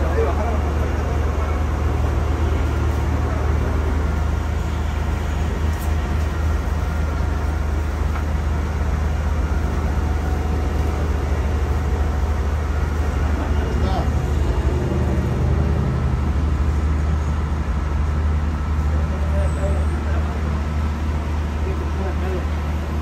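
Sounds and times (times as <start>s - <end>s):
crane engine rumbling: 0.0s - 23.0s.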